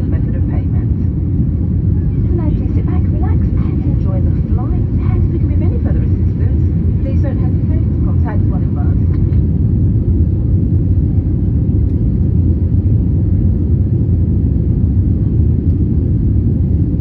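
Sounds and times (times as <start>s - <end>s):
airplane engines rumbling in cabin: 0.0s - 17.0s.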